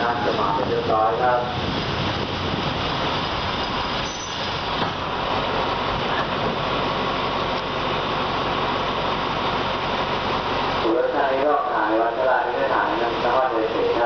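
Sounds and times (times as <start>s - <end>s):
low engine hum: 0.0s - 14.0s
train rumbling on track: 0.0s - 14.0s.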